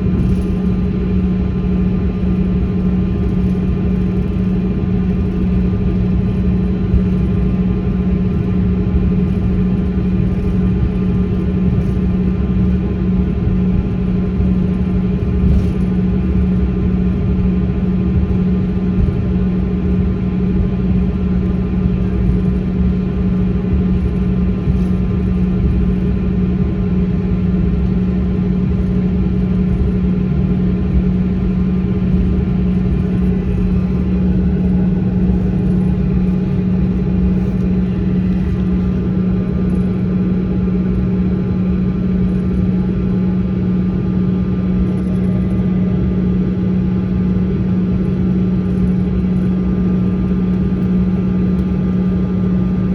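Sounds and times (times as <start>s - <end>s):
faint steady whines: 0.0s - 52.9s
low hum of airliner cabin: 0.0s - 52.9s
rumble: 0.0s - 52.9s.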